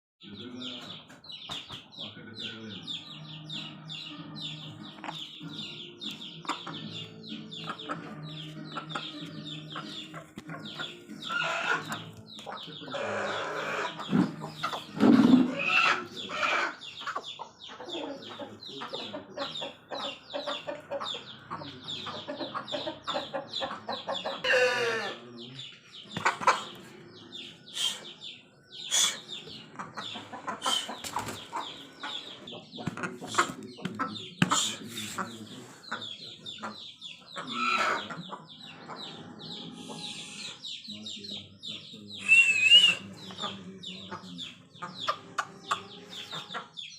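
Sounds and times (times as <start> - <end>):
chickens clucking and calling: 0.2 - 46.9.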